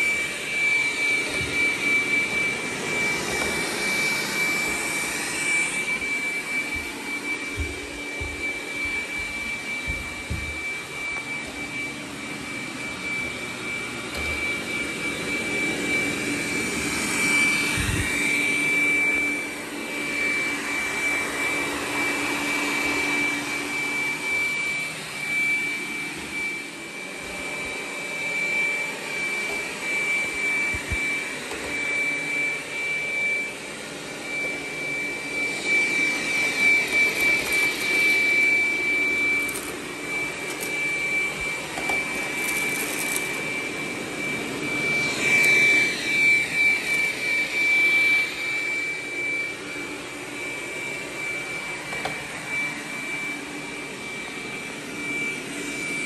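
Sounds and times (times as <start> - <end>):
robot vacuum running: 0.0 - 56.0.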